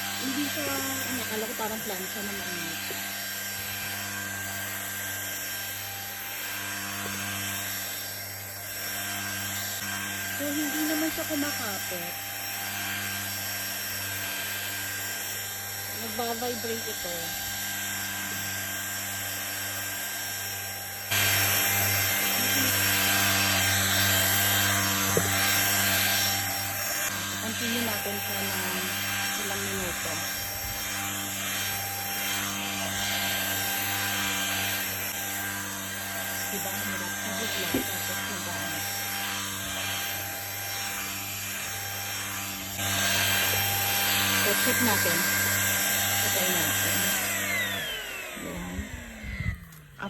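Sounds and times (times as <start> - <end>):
vacuum cleaner running: 0.0 - 50.0.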